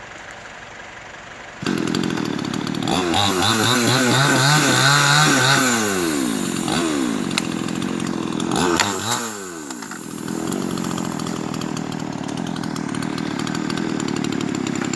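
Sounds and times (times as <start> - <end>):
chainsaw engine revving: 1.6 - 14.9.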